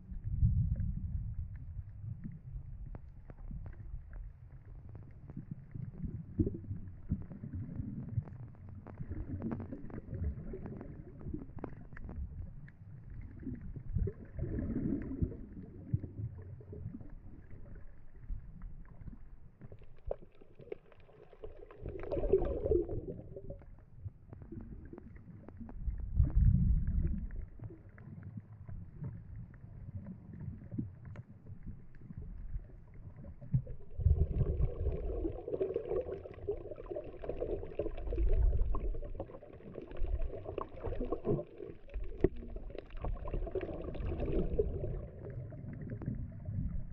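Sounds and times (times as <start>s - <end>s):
low underwater rumbles: 0.0s - 46.9s
underwater water moving: 0.0s - 46.9s.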